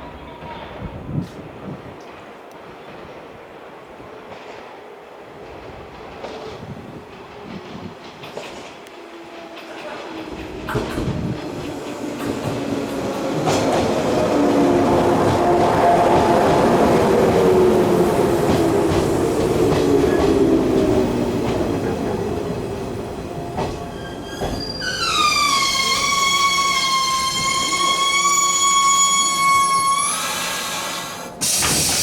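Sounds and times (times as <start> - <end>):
long high steady train tone: 0.0 - 32.0
electric train rumbling: 3.9 - 32.0.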